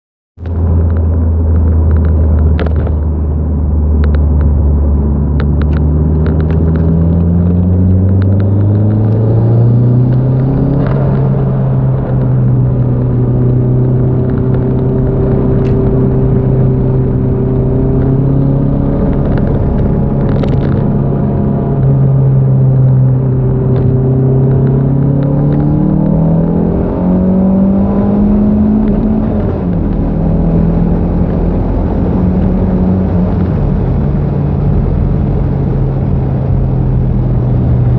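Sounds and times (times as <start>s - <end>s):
turbocharged car engine revving: 1.6s - 37.9s.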